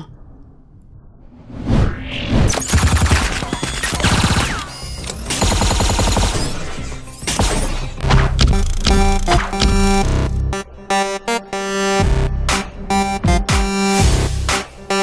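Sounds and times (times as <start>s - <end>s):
electronic music: 2.5s - 15.0s.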